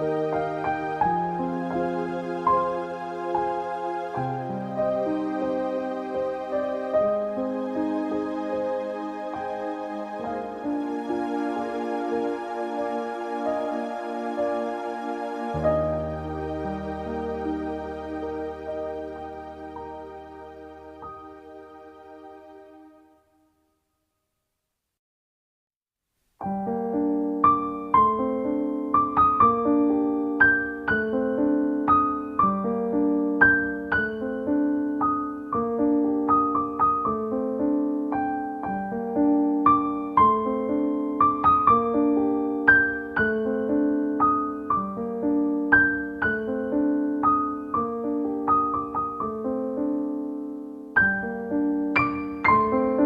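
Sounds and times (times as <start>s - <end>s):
piano music with broken chords: 0.0s - 23.4s, 26.4s - 53.0s.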